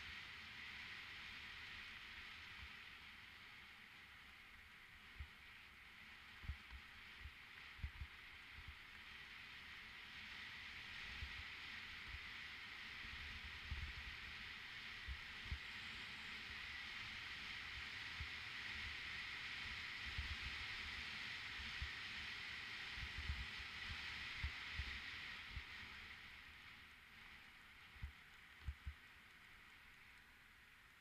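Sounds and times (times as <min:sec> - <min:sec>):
bicycle tyres hissing on trail: 0:00.0 - 0:31.0.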